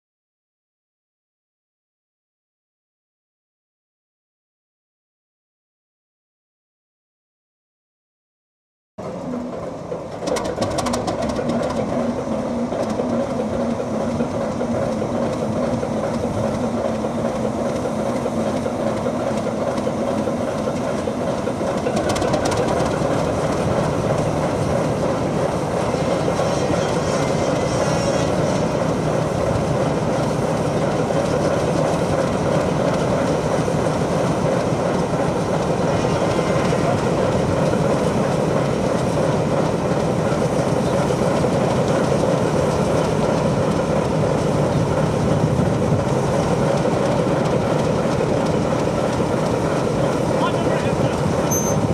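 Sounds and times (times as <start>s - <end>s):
diesel locomotive engine running: 9.0s - 51.9s.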